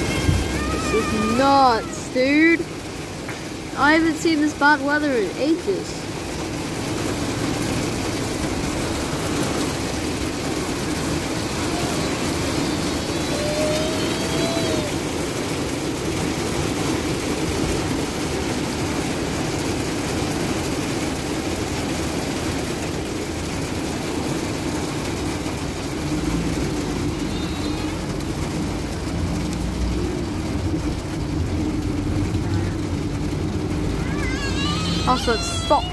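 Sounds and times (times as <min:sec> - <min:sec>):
heavy rain on car roof: 0:00.0 - 0:35.9.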